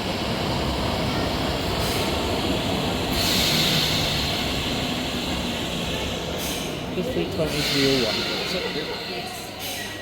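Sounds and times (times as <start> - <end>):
train rumble: 0.0 - 10.0
train hiss: 1.6 - 10.0.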